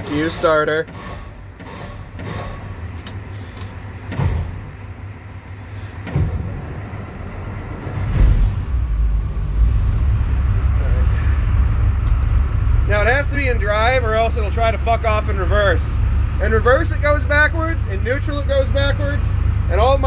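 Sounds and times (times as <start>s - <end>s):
diesel engine cranking: 0.0s - 20.0s
diesel engine running: 0.0s - 20.0s.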